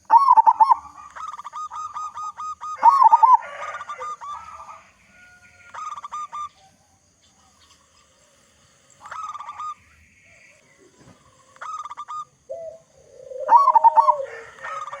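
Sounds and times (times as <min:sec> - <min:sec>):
dove cooing: 0:00.0 - 0:07.8, 0:09.0 - 0:15.0.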